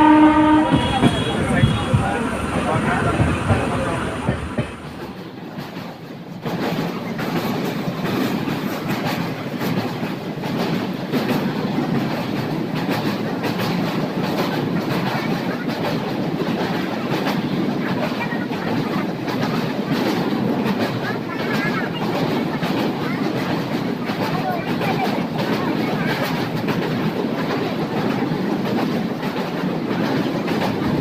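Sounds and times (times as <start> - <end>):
train rumble on bridge: 0.0 - 31.0
wheels clicking over rails: 0.7 - 31.0.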